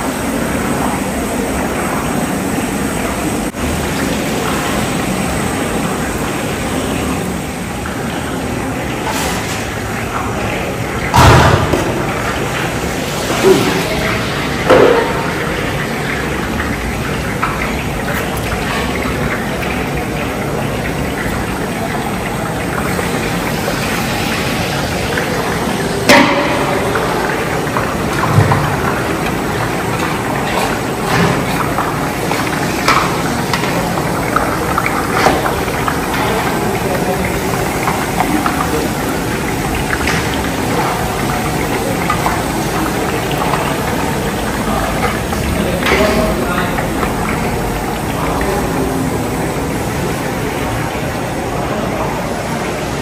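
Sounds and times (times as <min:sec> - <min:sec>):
food frying in hot oil: 0:00.0 - 0:53.0.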